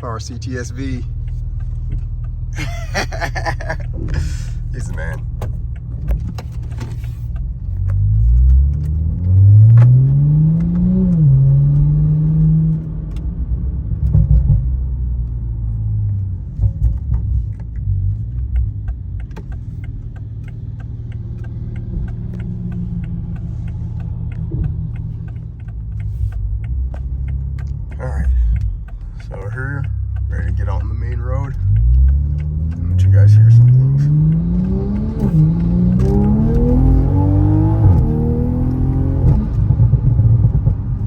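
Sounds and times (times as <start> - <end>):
light regular ticking: 0.0 - 13.6, 14.6 - 39.8
car engine accelerating: 0.0 - 41.0.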